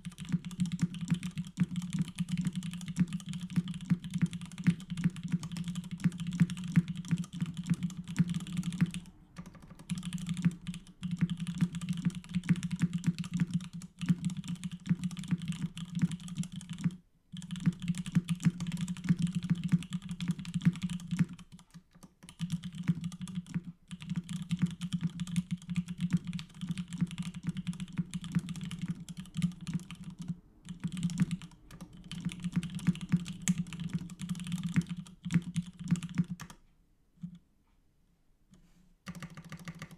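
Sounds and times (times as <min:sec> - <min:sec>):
mechanical keyboard typing: 0:00.0 - 0:36.6, 0:39.1 - 0:39.9.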